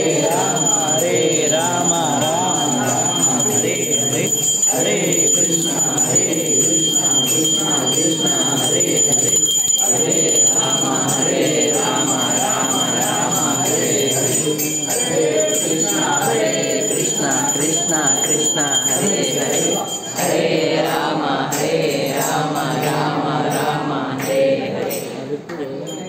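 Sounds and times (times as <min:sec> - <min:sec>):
hand bell ringing: 0:00.0 - 0:25.2, 0:25.8 - 0:26.0
group singing a chant: 0:00.0 - 0:26.0.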